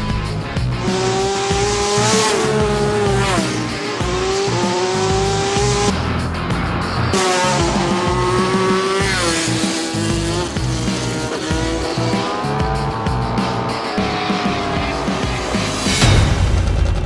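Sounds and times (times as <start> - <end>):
motorcycle engine at high revs: 0.0 - 6.0, 7.0 - 16.1
background music: 0.0 - 17.0.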